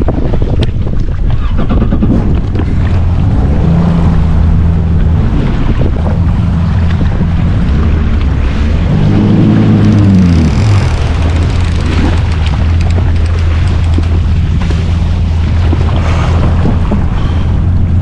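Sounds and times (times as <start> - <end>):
jet ski engine hum: 0.0 - 18.0
water splashing against hull: 0.0 - 18.0
wind buffeting microphone: 0.0 - 18.0.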